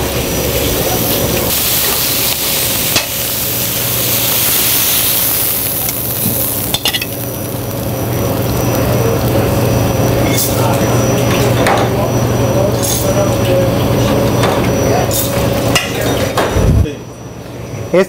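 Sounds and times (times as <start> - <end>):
food sizzling in a pan: 0.0 - 16.4.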